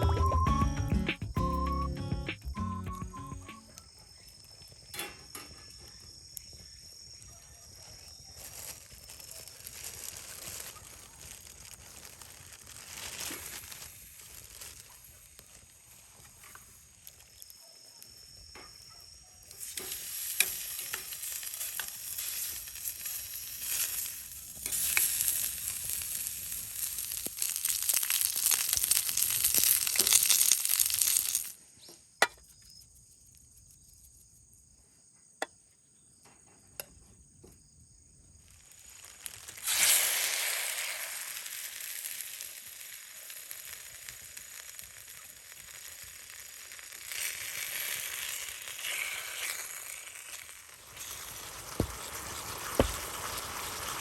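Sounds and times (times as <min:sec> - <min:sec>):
sizzling over a wood fire: 0:01.5 - 0:34.5, 0:37.0 - 0:54.0
sharp pops from fire: 0:03.4 - 0:32.9, 0:38.3 - 0:54.0.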